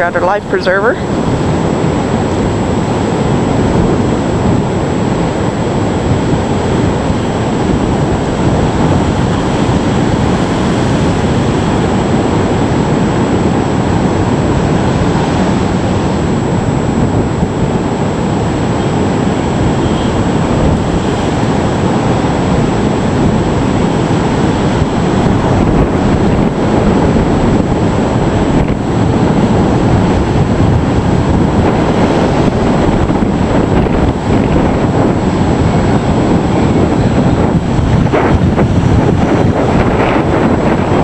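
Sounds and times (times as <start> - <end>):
storm waves crashing: 0.0 - 41.0
wind buffeting microphone: 0.0 - 41.0.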